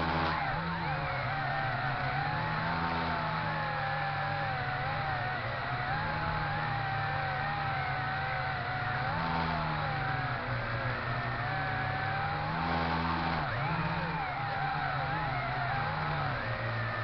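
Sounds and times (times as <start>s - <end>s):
model plane motor whine: 0.0s - 17.0s.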